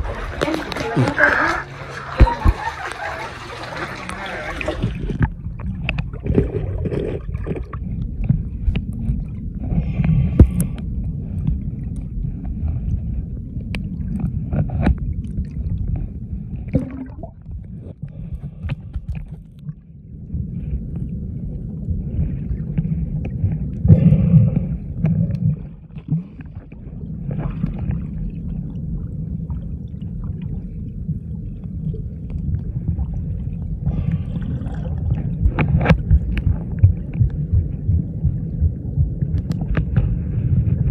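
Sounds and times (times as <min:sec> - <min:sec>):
underwater gurgling bursts: 0:00.0 - 0:08.3, 0:13.9 - 0:20.8, 0:21.7 - 0:40.9
underwater rumble of moving water: 0:00.0 - 0:40.9.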